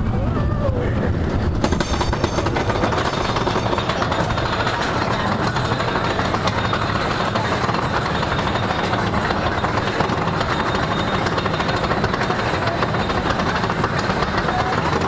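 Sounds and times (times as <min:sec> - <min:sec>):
roller coaster rumbling on track: 0:00.0 - 0:15.0
wheels clattering on track: 0:01.0 - 0:15.0.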